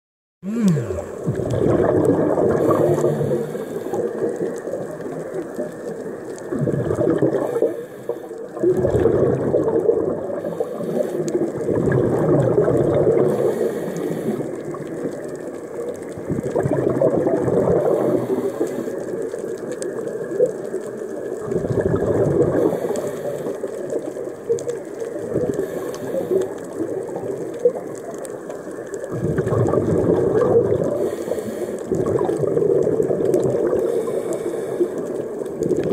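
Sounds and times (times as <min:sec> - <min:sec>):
regulator bubbling breath underwater: 0:00.4 - 0:35.9.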